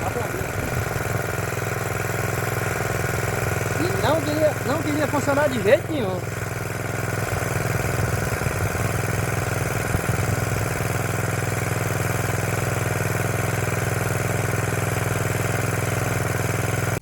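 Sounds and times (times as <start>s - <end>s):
motor pump engine running: 0.0s - 17.0s.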